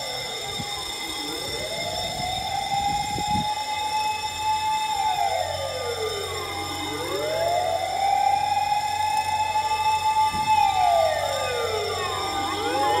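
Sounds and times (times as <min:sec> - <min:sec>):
fainter siren sweeping: 0:00.0 - 0:13.0
siren wailing: 0:00.0 - 0:13.0.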